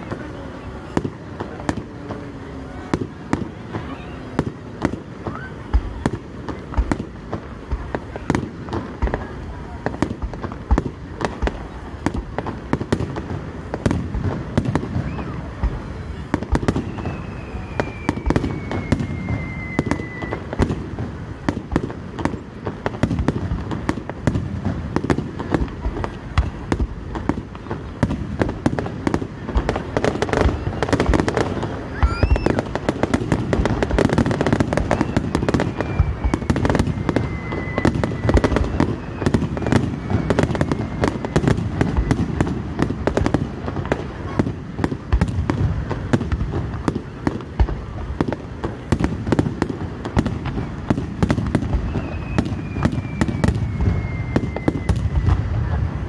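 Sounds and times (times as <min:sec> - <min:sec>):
fireworks bangs and crackles: 0:00.0 - 0:56.0
fireworks whistles: 0:00.0 - 0:56.0.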